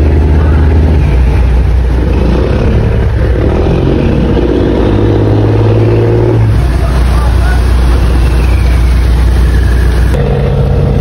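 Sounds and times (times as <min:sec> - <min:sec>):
deeper engine tone: 0:00.0 - 0:11.0
diesel boat engine running: 0:00.0 - 0:11.0.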